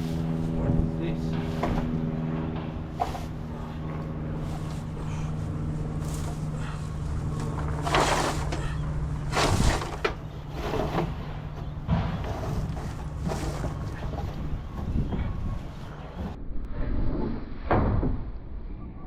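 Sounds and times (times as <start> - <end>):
rustling handling noises: 0.0 - 16.4
steady motor hum: 0.0 - 16.6.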